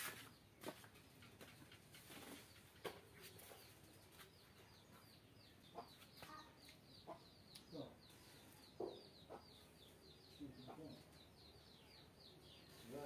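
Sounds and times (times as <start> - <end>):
chickens clucking: 0.6 - 11.2.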